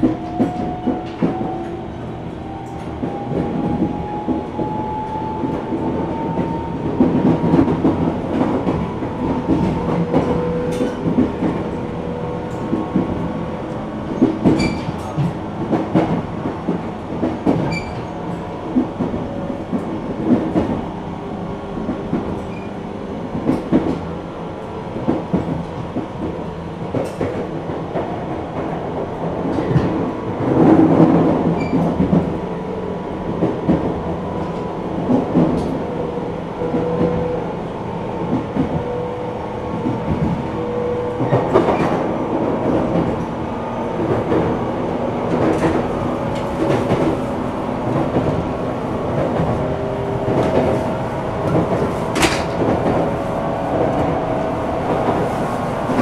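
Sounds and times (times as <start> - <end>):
train interior rumble and motor hum: 0.0 - 56.0.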